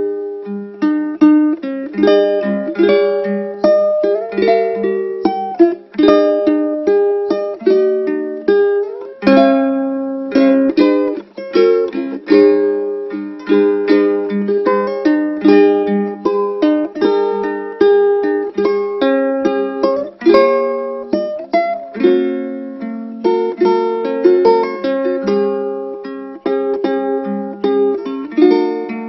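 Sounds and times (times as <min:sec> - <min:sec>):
solo ukulele melody: 0:00.0 - 0:29.0.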